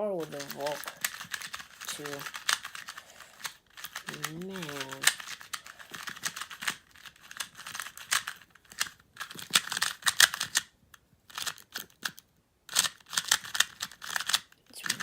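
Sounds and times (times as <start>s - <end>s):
puzzle cube clicking when turned: 0.2s - 10.7s, 11.3s - 15.0s.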